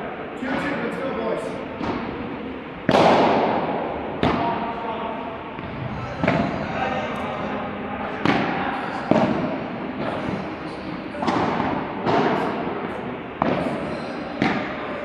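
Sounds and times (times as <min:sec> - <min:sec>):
rackets hitting ball: 0:01.7 - 0:04.8, 0:05.6 - 0:15.0.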